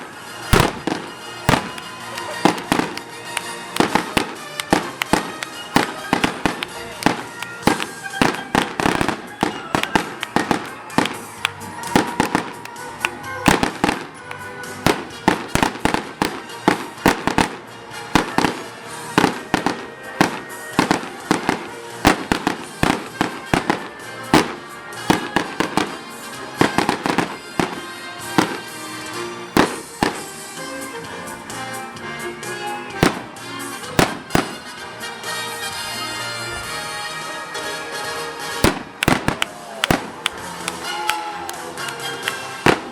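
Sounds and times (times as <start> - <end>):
music playing: 0.0 - 42.9
fireworks banging: 0.3 - 30.5, 33.0 - 34.9, 38.6 - 42.9.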